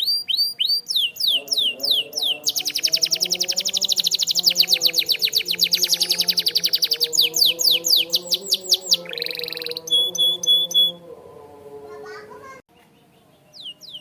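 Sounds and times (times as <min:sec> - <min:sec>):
canary singing trills: 0:00.0 - 0:11.1, 0:12.7 - 0:14.0.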